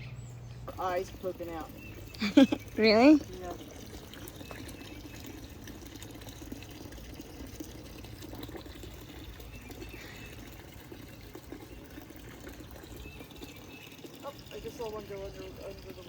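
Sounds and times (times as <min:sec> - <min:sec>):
water trickling into pond: 0:00.0 - 0:16.0.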